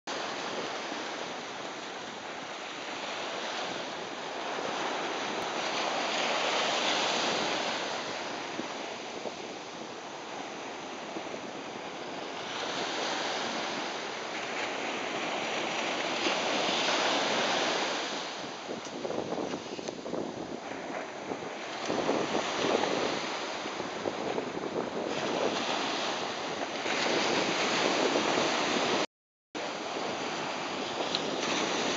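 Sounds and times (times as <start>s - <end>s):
surf breaking on beach: 0.1s - 29.0s, 29.6s - 31.9s.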